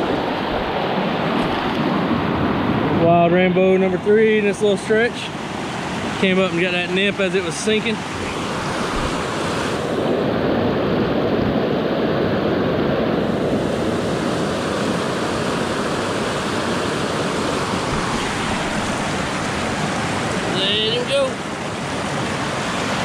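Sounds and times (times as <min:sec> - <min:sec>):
creek rushing over boulders: 0:00.0 - 0:10.3, 0:13.2 - 0:23.0.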